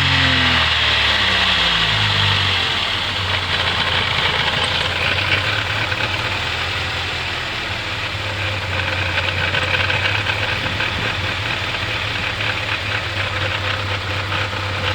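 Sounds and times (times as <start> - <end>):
petrol engine idling roughly: 0.0 - 14.9.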